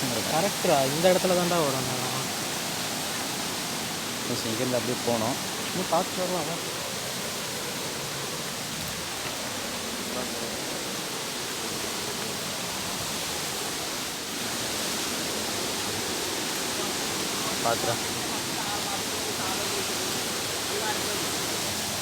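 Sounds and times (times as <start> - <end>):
rushing water hiss: 0.0 - 22.0.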